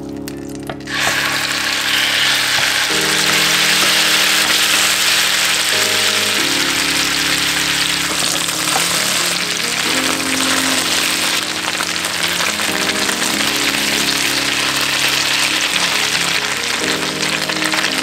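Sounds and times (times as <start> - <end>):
background music: 0.0 - 18.0
meatballs sizzling in a frying pan: 0.9 - 18.0.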